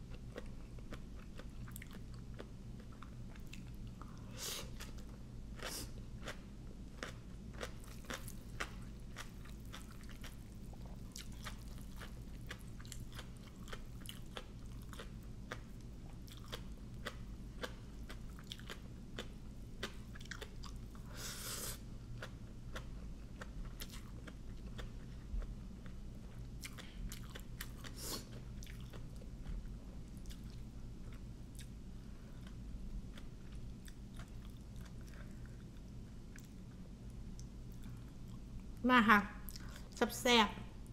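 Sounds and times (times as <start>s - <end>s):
chewing and crunching food: 0.0s - 38.8s, 39.4s - 40.0s.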